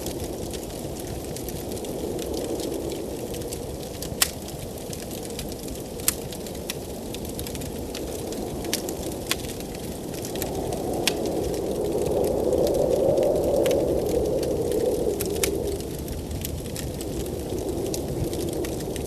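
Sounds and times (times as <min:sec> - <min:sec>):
blizzard wind blowing: 0:00.0 - 0:19.0
burning logs popping: 0:00.0 - 0:19.0
wood fire crackling: 0:00.0 - 0:19.0.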